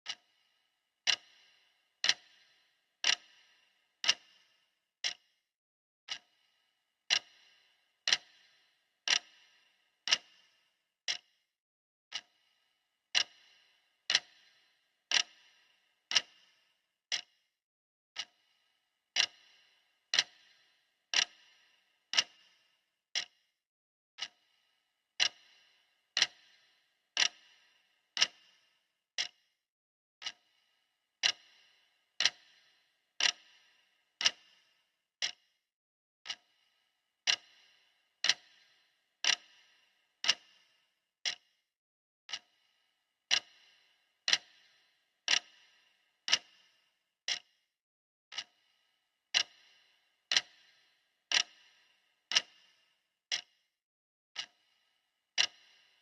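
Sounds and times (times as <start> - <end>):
clock ticking: 0.0 - 5.2, 6.1 - 11.3, 12.1 - 17.4, 18.2 - 23.4, 24.2 - 24.6, 25.2 - 29.5, 30.2 - 30.6, 31.2 - 35.5, 36.2 - 41.6, 42.3 - 47.6, 48.3 - 53.6, 54.4 - 56.0.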